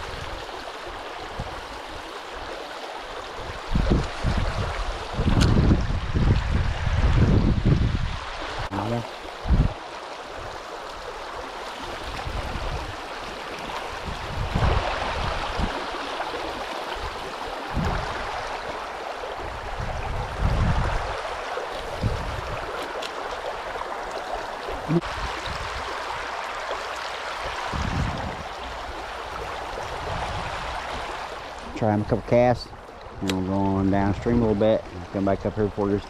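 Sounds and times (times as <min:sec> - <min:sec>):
river water running over shallows: 0:00.0 - 0:36.0.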